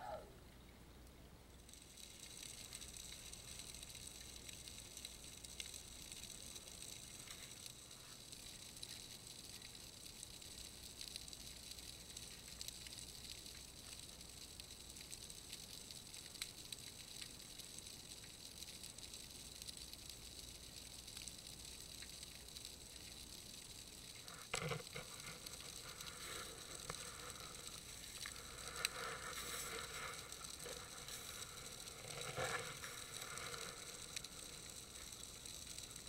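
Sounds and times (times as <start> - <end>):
underwater crackling and hiss: 1.5 - 36.0.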